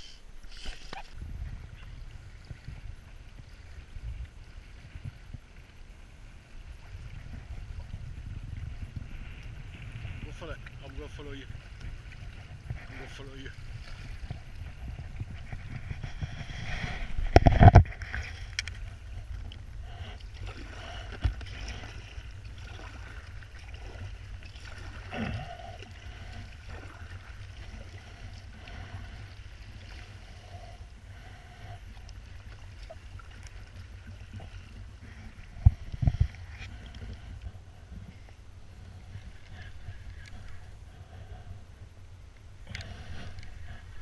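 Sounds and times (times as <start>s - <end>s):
steady low rumble: 1.1s - 44.0s
paddle splashing in water: 1.8s - 41.2s.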